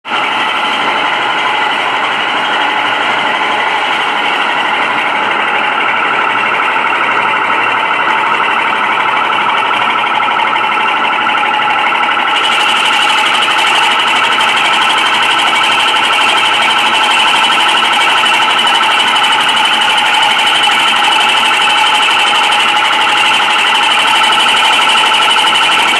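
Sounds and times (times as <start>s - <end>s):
water pump rattling pulse: 0.1s - 25.9s.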